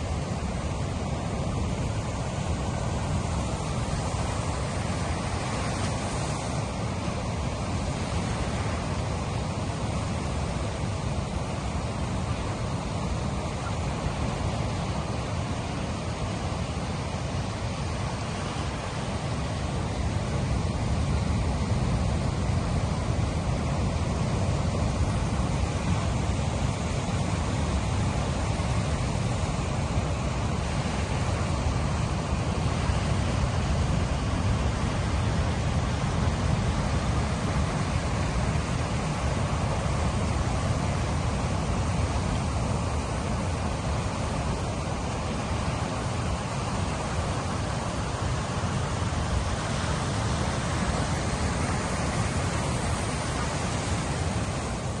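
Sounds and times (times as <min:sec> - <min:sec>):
sea waves roaring: 0:00.0 - 0:55.0.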